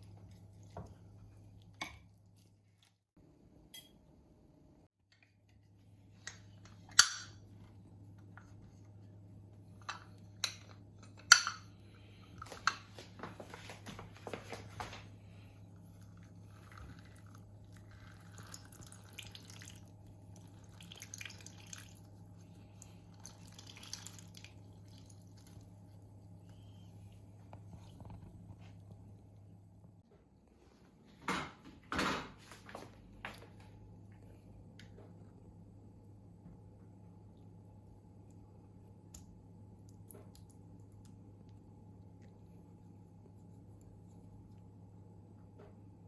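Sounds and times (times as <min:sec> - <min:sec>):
steady low hum: 0:00.0 - 0:31.5, 0:32.5 - 0:46.0.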